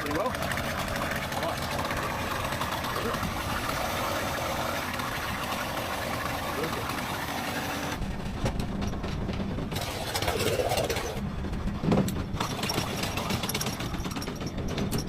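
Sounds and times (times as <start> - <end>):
outboard motor idling: 0.0 - 8.3, 9.2 - 15.0.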